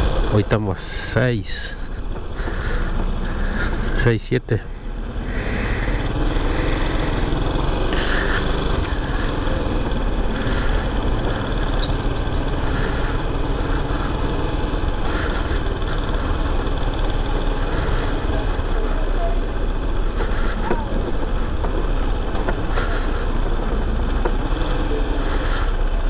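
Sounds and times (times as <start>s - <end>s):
motorcycle engine at low revs: 0.0s - 26.0s
road and wind rumble: 0.0s - 26.0s.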